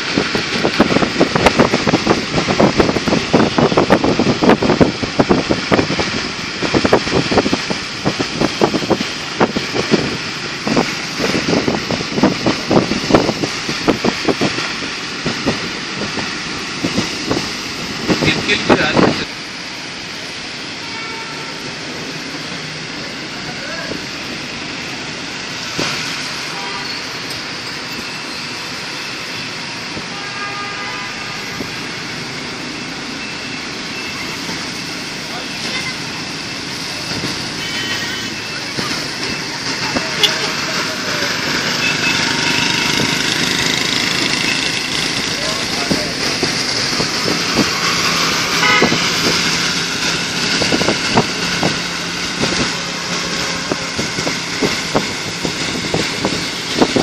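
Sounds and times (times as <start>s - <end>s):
tyres hissing on wet road: 0.0s - 57.0s.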